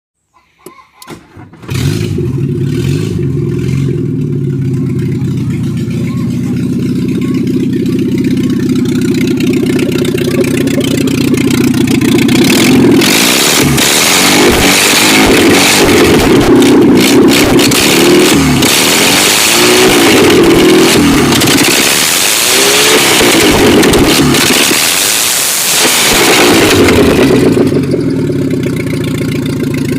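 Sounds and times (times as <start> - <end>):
car engine idling and revving: 1.0 - 29.9.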